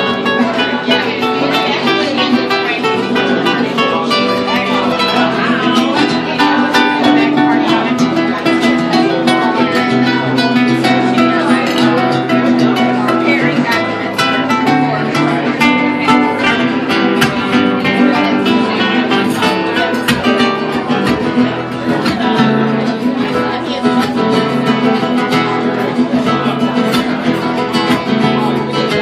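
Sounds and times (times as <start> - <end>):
fingerstyle nylon-string guitar: 0.0 - 29.0.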